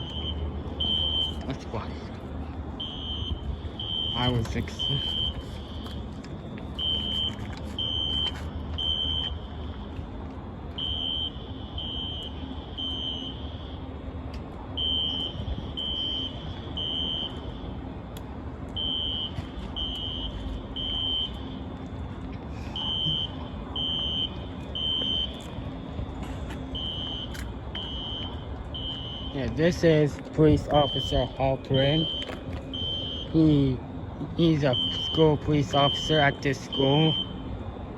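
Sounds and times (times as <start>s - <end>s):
fire alarm beeping: 0.0s - 1.6s, 2.7s - 18.0s, 18.7s - 37.9s.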